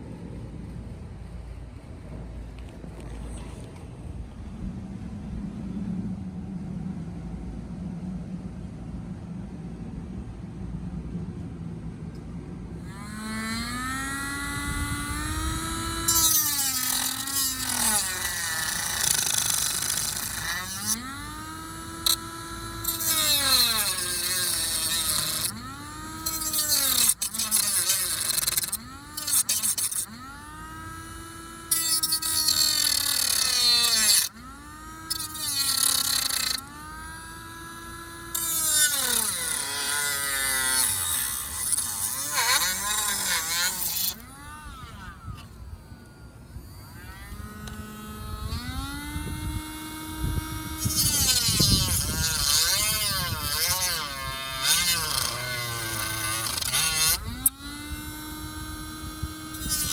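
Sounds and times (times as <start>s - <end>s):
rotary tool whine: 0.0s - 9.7s, 10.6s - 59.9s.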